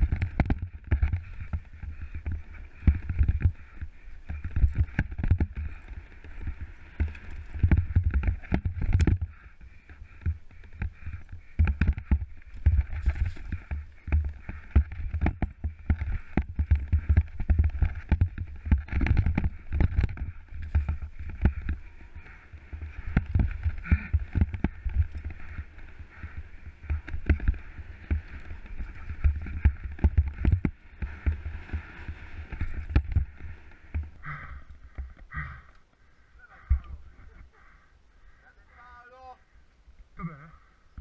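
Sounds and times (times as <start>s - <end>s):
bike knocks and rattles: 0.0s - 35.6s
bike tyres rumbling over rocks: 0.0s - 35.7s.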